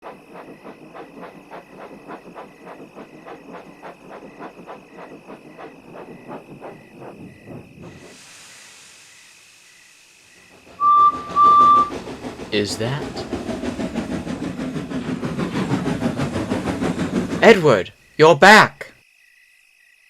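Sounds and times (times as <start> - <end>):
steam hissing: 0.0 - 17.9
steam locomotive chuffing: 0.0 - 18.6.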